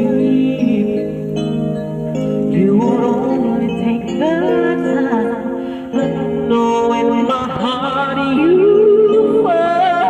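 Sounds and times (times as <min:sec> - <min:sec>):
man singing: 0:00.0 - 0:01.4, 0:02.5 - 0:10.0
ballad backing track: 0:00.0 - 0:10.0.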